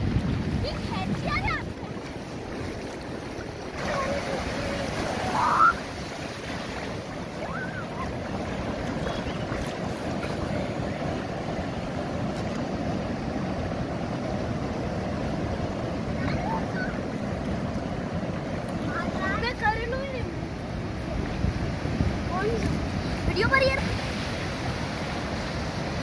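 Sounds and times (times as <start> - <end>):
sea surf washing: 0.0 - 26.0.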